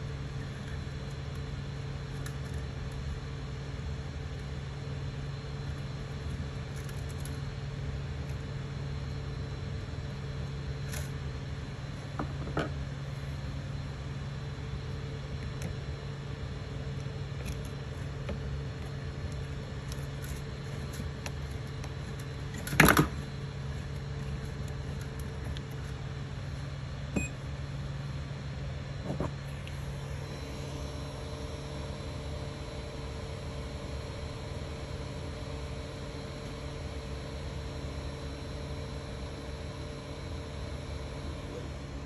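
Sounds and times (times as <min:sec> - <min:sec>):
printer humming: 0:00.0 - 0:42.0.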